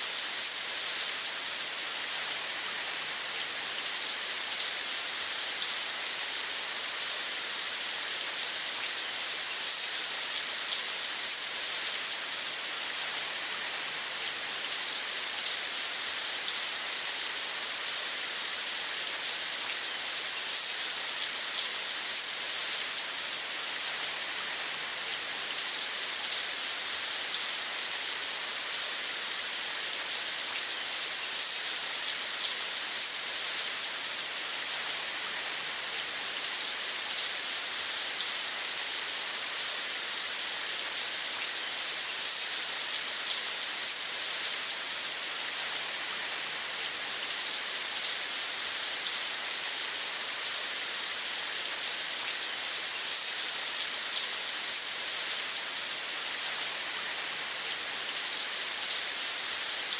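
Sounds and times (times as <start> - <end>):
steady rain pattering: 0.0 - 59.9.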